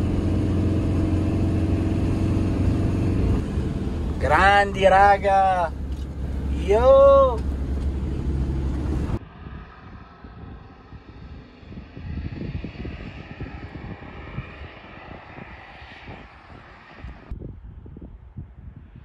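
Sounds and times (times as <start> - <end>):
faint engine hum: 0.0 - 17.3
wind gusting on microphone: 0.0 - 19.0.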